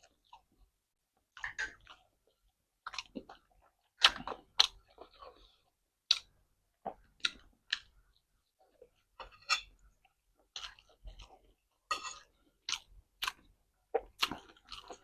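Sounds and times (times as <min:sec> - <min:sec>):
person chewing food: 0:00.0 - 0:00.7, 0:01.3 - 0:15.0.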